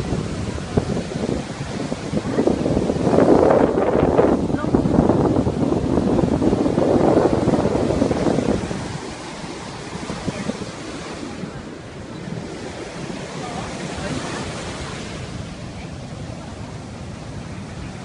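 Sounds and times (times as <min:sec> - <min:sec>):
surf washing on a beach: 0:00.0 - 0:18.0
wind rumbling on microphone: 0:00.0 - 0:18.0.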